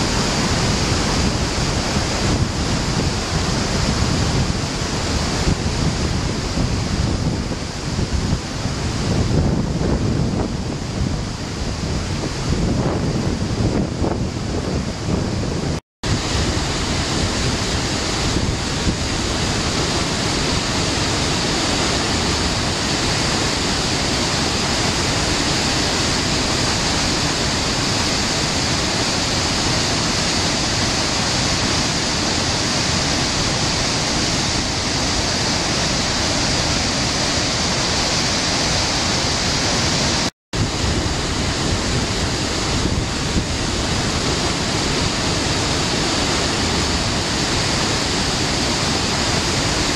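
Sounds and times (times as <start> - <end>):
waterfall rushing over rock: 0.0 - 49.9.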